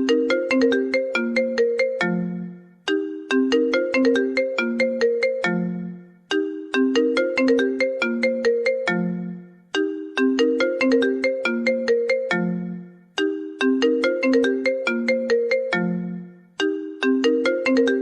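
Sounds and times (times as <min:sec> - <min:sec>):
phone ringtone melody: 0:00.0 - 0:18.0.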